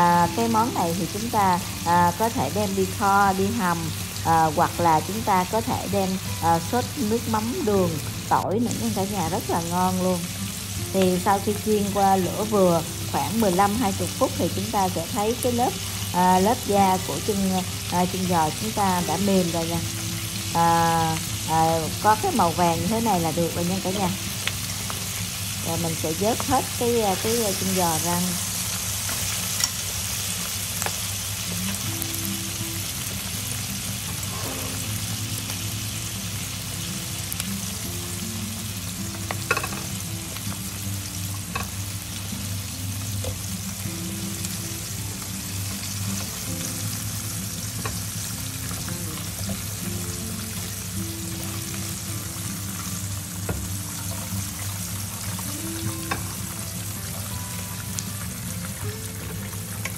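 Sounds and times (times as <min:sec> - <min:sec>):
oil sizzling and bubbling: 0:00.0 - 0:59.9
soft background music: 0:00.0 - 0:59.9.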